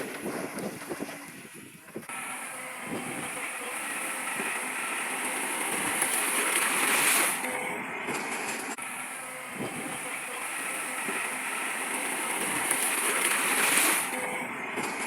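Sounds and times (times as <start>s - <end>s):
earthmoving machinery running: 0.0s - 15.0s.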